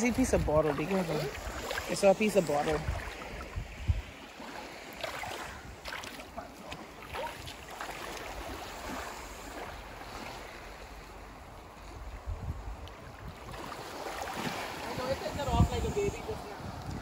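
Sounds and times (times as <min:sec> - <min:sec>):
small waves washing: 0:00.0 - 0:17.0
wind: 0:00.0 - 0:17.0.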